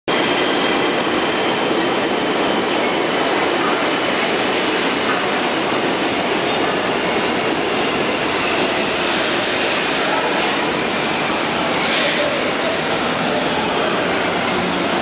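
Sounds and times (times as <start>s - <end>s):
subway train wheels rumbling: 0.1s - 15.0s.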